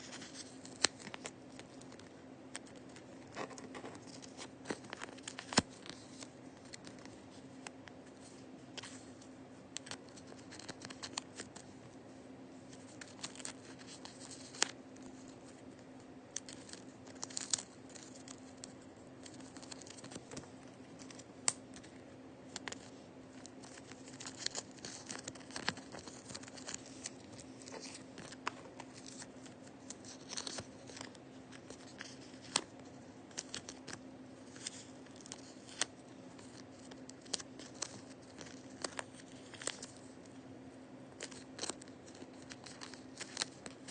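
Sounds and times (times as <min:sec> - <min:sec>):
paper crinkling and tearing: 0:00.0 - 0:09.1, 0:09.8 - 0:11.7, 0:12.7 - 0:15.6, 0:16.3 - 0:40.1, 0:41.1 - 0:43.9
faint steady hum: 0:00.0 - 0:43.9.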